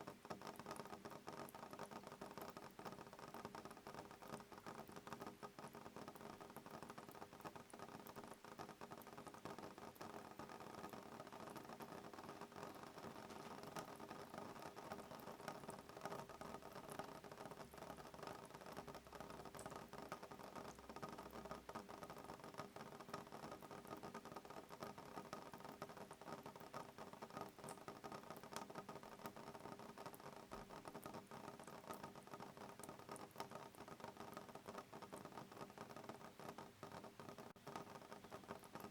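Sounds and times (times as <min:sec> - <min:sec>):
rain pattering on window glass: 0:00.0 - 0:38.9.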